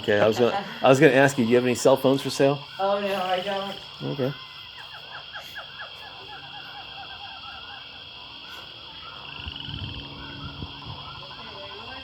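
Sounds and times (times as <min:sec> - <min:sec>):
small animals chirping: 0:01.4 - 0:12.0.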